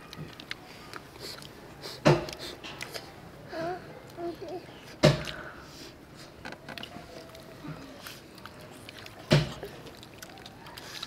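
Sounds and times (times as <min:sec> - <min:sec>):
soft chewing: 0:00.0 - 0:11.0.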